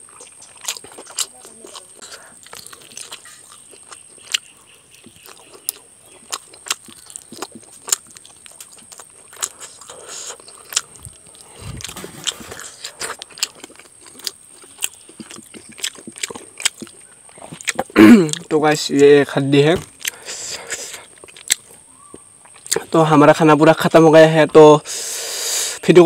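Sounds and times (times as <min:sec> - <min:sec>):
chewing and lip-smacking: 0:00.0 - 0:19.2, 0:20.0 - 0:22.9.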